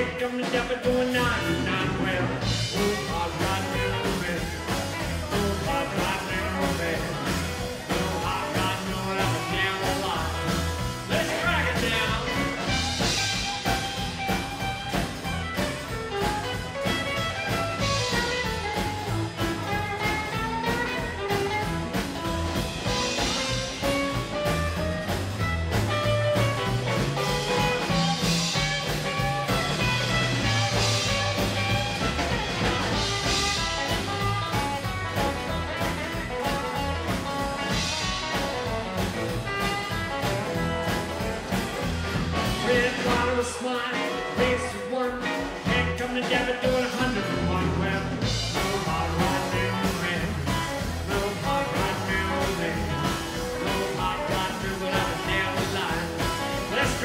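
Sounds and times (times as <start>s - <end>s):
drum kit beat: 0.0s - 57.0s
electric and acoustic guitars: 0.0s - 57.0s
upright double bass: 0.0s - 57.0s.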